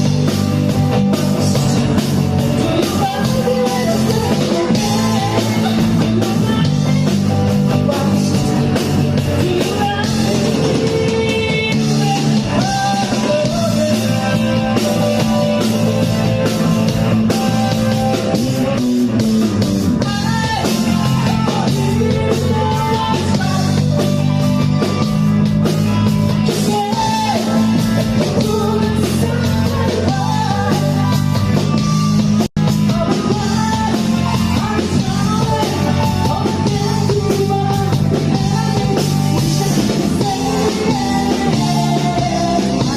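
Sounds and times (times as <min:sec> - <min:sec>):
person singing: 0:00.0 - 0:19.4, 0:20.0 - 0:24.8, 0:26.2 - 0:31.9, 0:32.7 - 0:42.9
drum kit: 0:00.0 - 0:42.9
electric guitar: 0:00.0 - 0:42.9.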